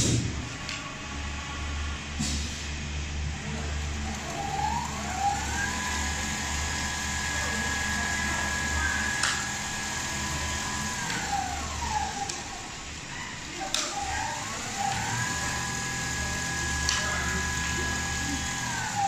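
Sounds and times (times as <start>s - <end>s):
sewing machine motors whining: 3.4s - 19.0s.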